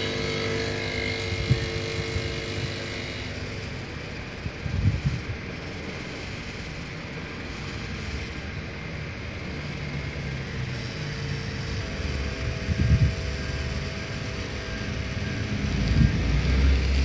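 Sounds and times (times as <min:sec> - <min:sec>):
espresso machine pump humming: 0:00.0 - 0:17.0.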